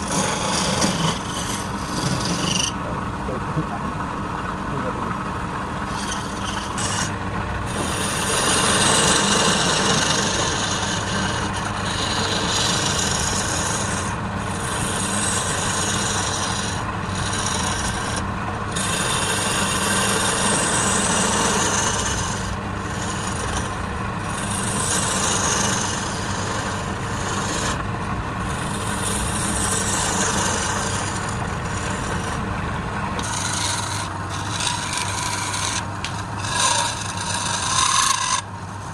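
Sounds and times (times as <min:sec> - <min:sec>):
turning tool scraping wood: 0:00.0 - 0:02.8, 0:05.8 - 0:38.9
wood lathe motor hum: 0:00.0 - 0:03.1, 0:05.2 - 0:38.9.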